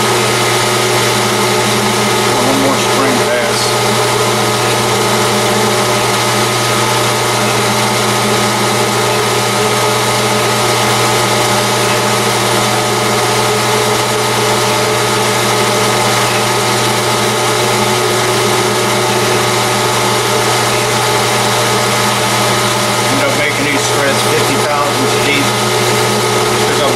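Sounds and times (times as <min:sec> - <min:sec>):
lathe motor and gear hum: 0:00.0 - 0:26.9
thin steady whine: 0:00.0 - 0:26.9.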